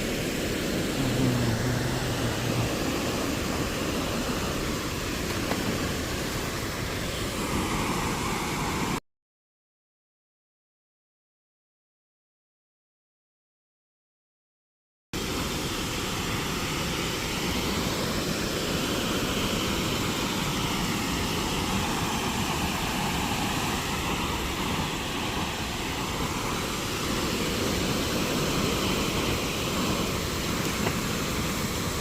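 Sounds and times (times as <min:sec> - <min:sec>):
water rushing over a dam: 0:00.0 - 0:09.0, 0:15.2 - 0:32.0.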